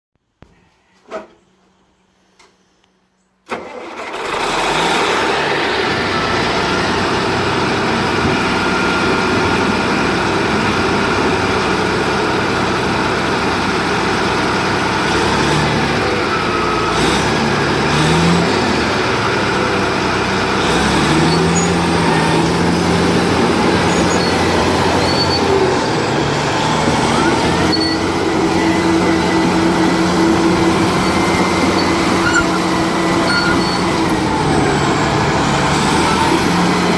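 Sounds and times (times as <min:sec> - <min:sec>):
bulldozer diesel engine: 0:03.5 - 0:36.9.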